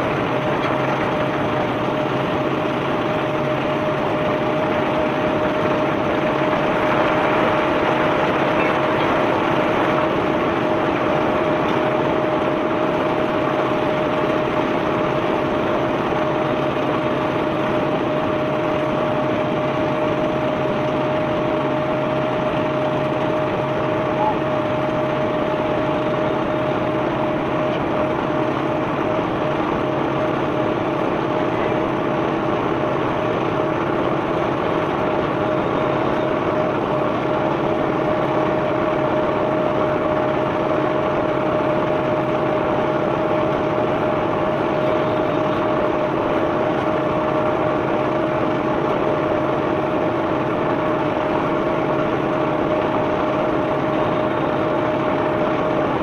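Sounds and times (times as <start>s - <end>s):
machinery engine whine and rumble: 0.0s - 56.0s.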